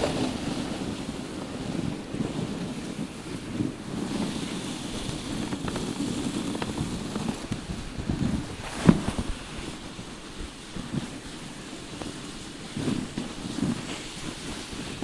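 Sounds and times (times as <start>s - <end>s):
sled runners rumbling on snow: 0.0s - 15.0s
wind buffeting microphone: 0.0s - 15.0s.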